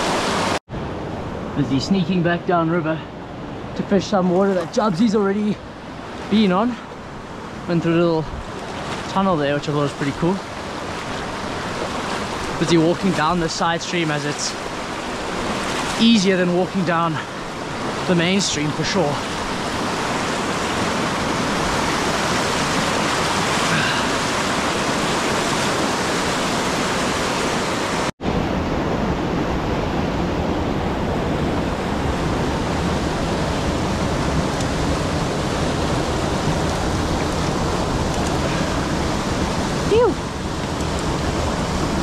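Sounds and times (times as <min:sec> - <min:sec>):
stream water flowing: 0:00.0 - 0:42.0.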